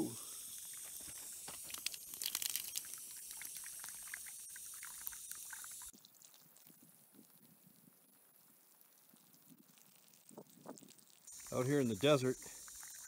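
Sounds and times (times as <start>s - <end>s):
water pouring into metal teapot: 0.3s - 7.3s, 8.9s - 13.0s.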